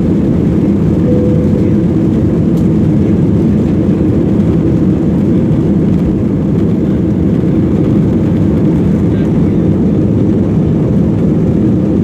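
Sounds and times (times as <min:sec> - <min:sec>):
airliner engines roaring: 0:00.0 - 0:12.0.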